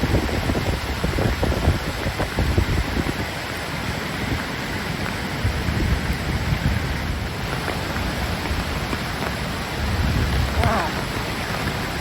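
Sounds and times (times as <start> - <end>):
rushing floodwater: 0.0 - 12.0
wind buffeting microphone: 0.0 - 12.0.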